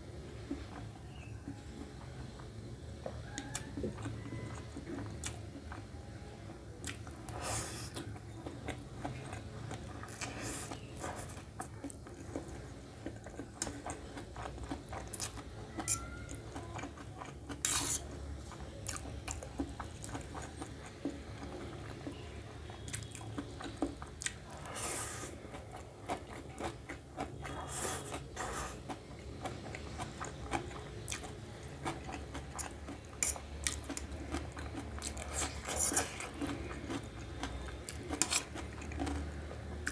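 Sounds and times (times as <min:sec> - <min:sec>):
person chewing: 0:00.4 - 0:05.9, 0:06.7 - 0:39.9.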